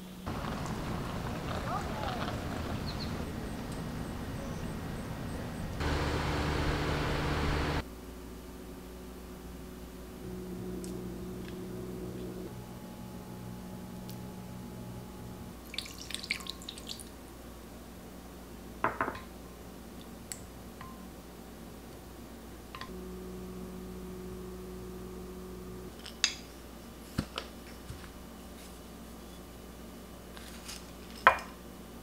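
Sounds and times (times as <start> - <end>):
steady low hum: 0.2 - 15.8, 19.4 - 30.3.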